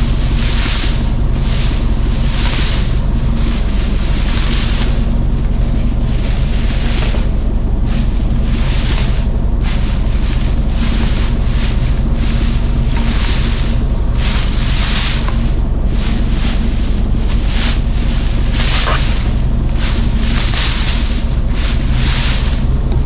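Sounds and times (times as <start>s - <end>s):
tractor engine running: 0.0s - 23.0s
wind gusting on microphone: 0.0s - 23.0s.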